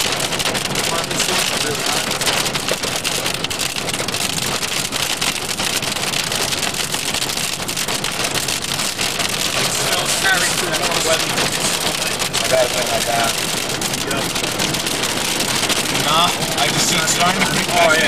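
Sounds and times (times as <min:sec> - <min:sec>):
rain drumming on car roof: 0:00.0 - 0:18.0.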